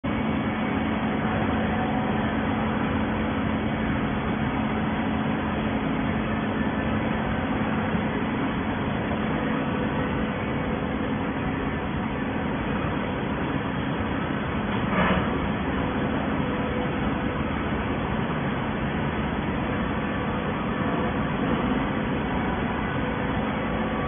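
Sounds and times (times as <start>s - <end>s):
baler machine humming: 0.0s - 24.0s.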